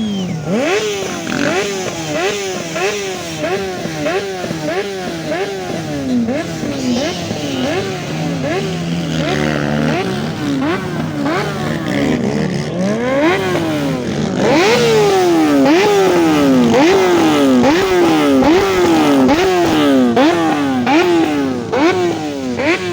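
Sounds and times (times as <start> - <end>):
two-stroke engine revving: 0.0 - 22.9.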